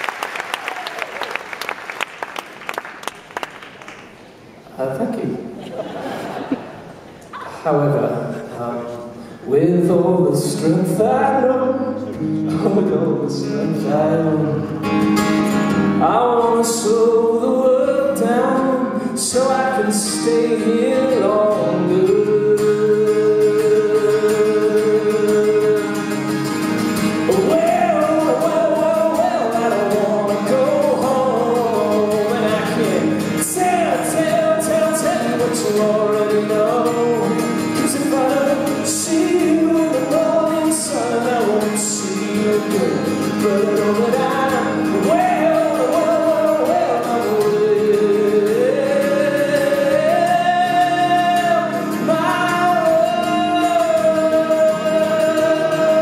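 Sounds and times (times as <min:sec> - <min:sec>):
acoustic guitar: 0:00.0 - 0:56.0
man singing: 0:07.6 - 0:14.9, 0:15.9 - 0:56.0.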